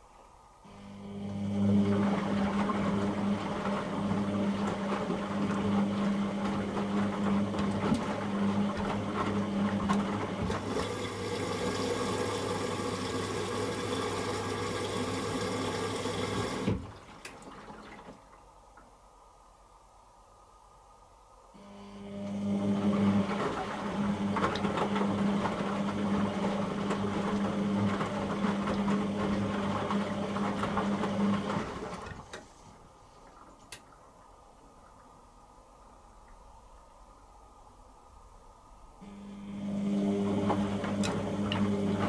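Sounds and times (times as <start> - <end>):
washing machine drain pump humming: 0.7 - 18.5, 21.6 - 35.3, 39.0 - 42.0.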